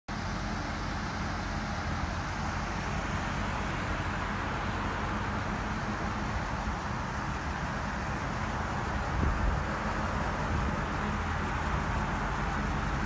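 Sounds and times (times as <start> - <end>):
engine idling: 0.1 - 13.0.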